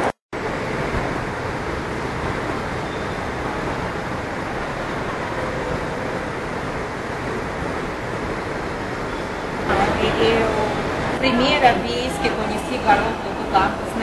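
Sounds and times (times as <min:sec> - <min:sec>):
metro station rushing noise: 0:00.0 - 0:14.0.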